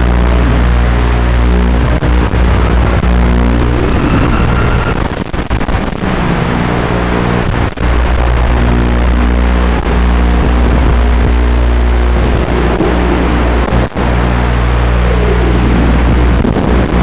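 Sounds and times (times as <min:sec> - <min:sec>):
quadcopter motors humming: 0:00.0 - 0:05.1, 0:08.0 - 0:17.0.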